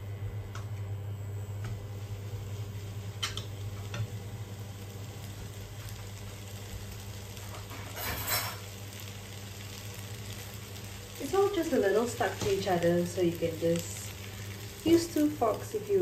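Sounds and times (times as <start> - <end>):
noodles sizzling in pan: 1.2 - 16.0.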